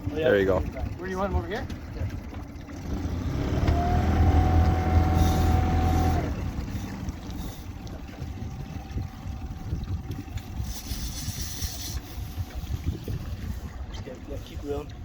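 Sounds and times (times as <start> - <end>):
boat motor running: 0.0 - 15.0
water noise: 0.0 - 15.0
wind: 0.0 - 15.0.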